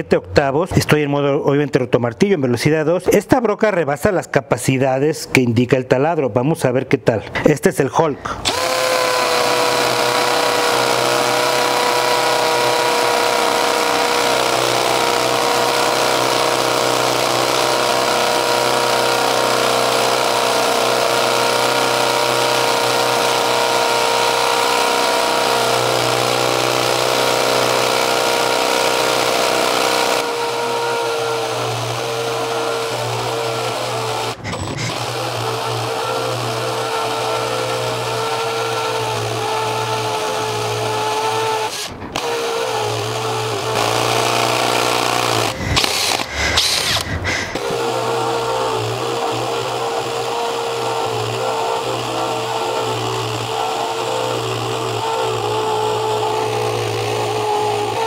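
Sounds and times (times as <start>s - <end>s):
hammer drill whining under load: 8.4s - 58.0s.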